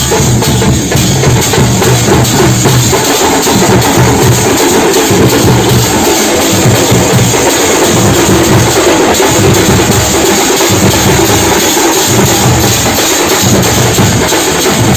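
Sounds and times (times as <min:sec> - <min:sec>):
drum group drumming: 0:00.0 - 0:14.9.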